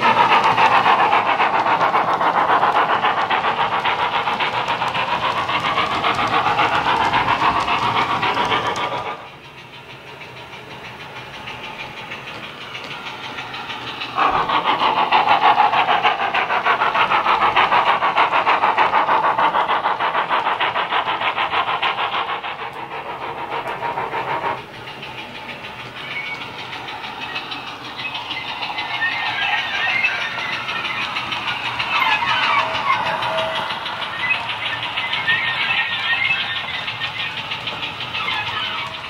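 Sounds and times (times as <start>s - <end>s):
steam locomotive exhaust chuffs: 0.0s - 39.0s.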